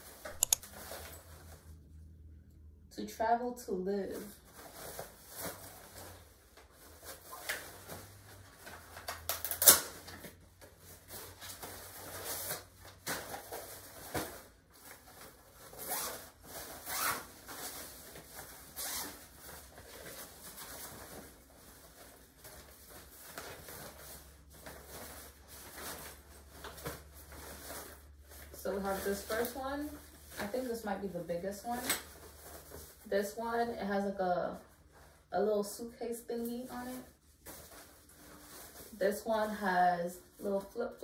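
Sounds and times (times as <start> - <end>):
fabric and packaging rustling: 0.0 - 1.8, 4.2 - 35.4, 36.4 - 41.0.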